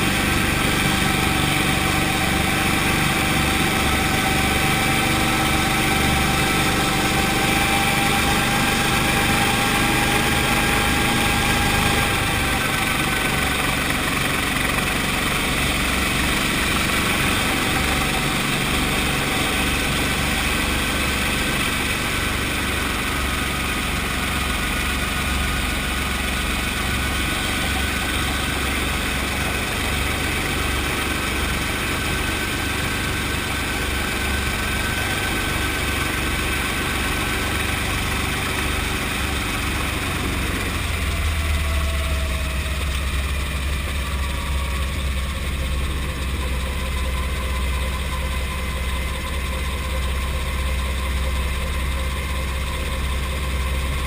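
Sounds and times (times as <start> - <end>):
helicopter engine rumble and whine: 0.0 - 54.0.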